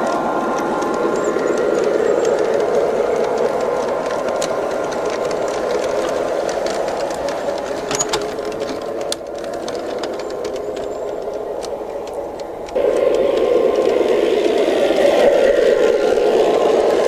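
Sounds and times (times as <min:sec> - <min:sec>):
model train wheels rumbling: 0:00.0 - 0:17.0
sharp track clicks: 0:00.0 - 0:17.0.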